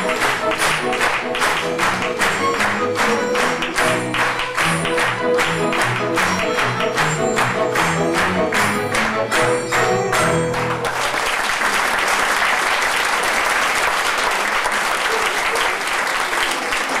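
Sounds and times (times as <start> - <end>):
audience applause: 0.0 - 17.0.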